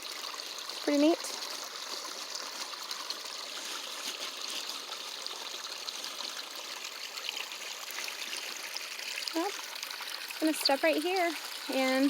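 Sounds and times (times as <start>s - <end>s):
water draining through a hole: 0.0s - 12.0s.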